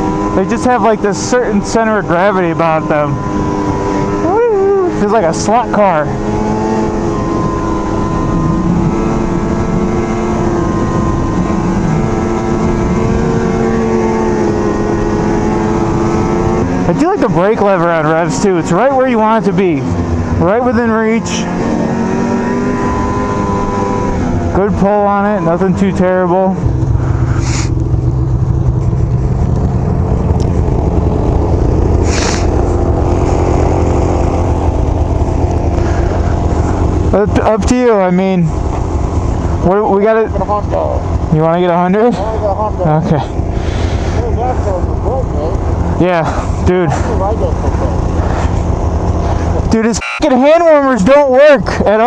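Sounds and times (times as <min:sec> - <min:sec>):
snowmobile engine running: 0:00.0 - 0:51.1.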